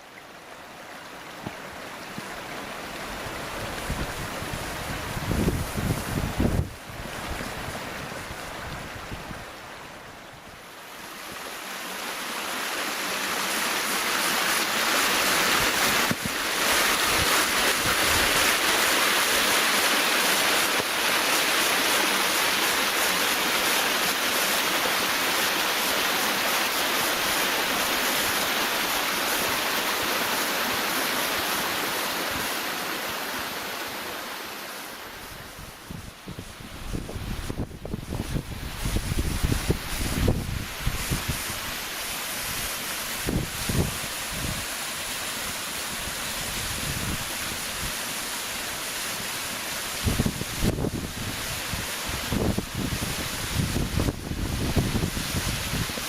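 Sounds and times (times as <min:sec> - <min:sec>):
mountain river cascade rushing: 0:00.0 - 0:56.0.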